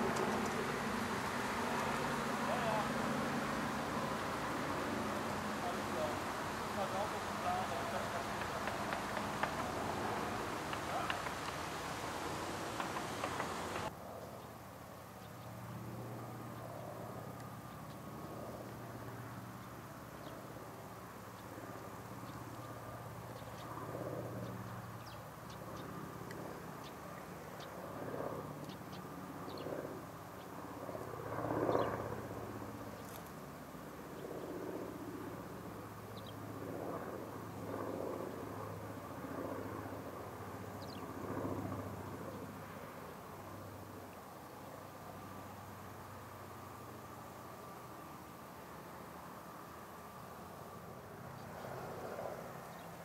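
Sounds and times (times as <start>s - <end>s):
propeller plane droning overhead: 0.0s - 53.0s.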